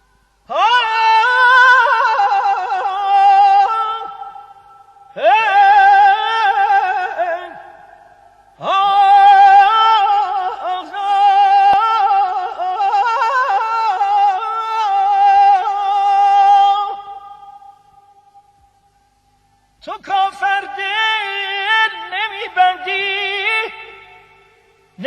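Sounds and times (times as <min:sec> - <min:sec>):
person singing wordless phrases: 0:00.5 - 0:04.5, 0:05.1 - 0:17.4, 0:19.8 - 0:24.3.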